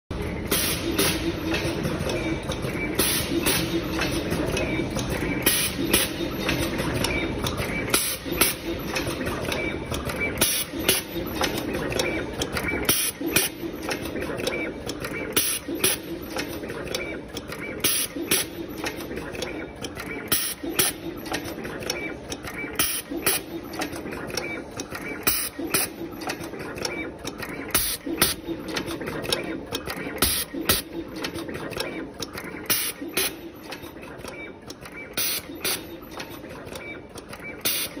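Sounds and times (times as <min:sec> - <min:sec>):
machine clacking: 0:00.1 - 0:38.0.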